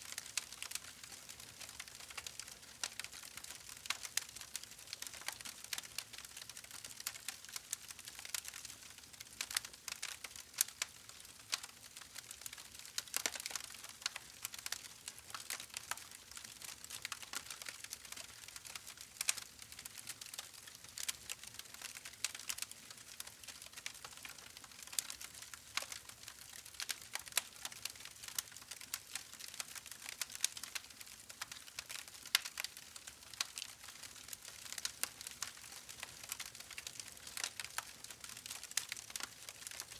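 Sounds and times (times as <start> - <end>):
wood fire crackling: 0.2 - 39.9.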